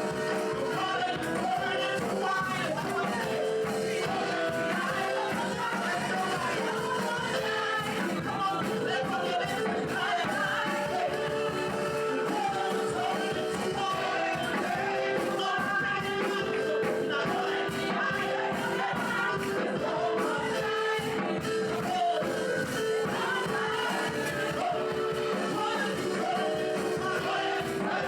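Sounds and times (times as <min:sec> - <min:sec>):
drums and cymbals: 0:00.0 - 0:28.0
gospel singing over a band: 0:00.0 - 0:28.0.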